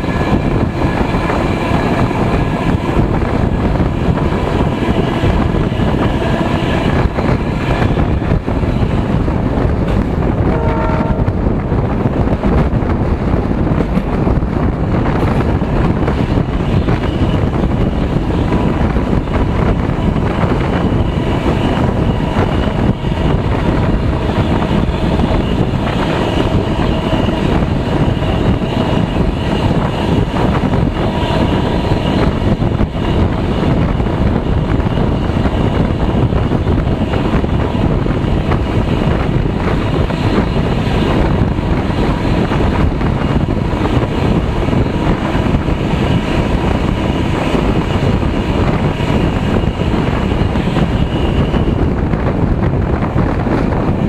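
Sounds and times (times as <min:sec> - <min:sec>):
train rumbling on rails: 0:00.0 - 0:54.0
wind buffeting microphone: 0:00.0 - 0:54.0.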